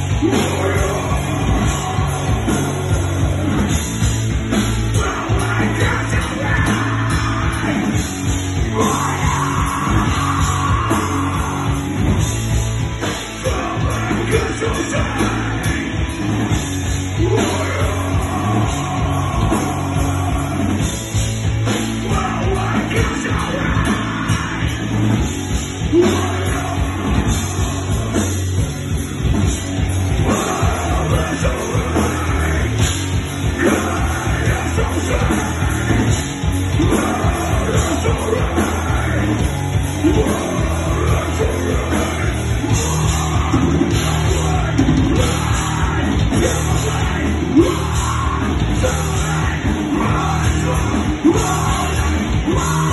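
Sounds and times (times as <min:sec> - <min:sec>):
heavy metal band playing: 0:00.0 - 0:52.9
yelled vocals: 0:00.0 - 0:52.9.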